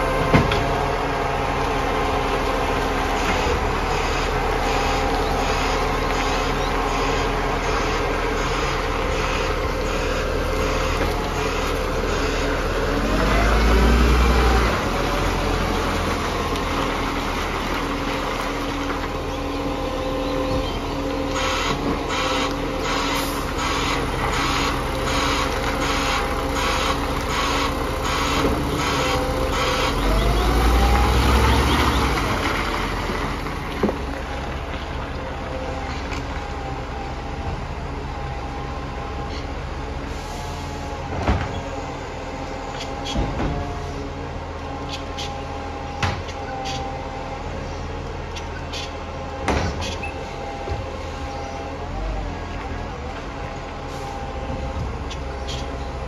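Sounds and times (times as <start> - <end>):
garbage truck diesel engine: 0.0 - 56.0.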